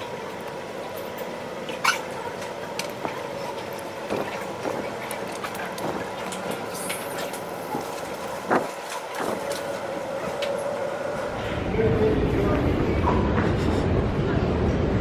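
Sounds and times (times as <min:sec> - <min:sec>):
mechanical hum with faint whine: 0:00.0 - 0:15.0.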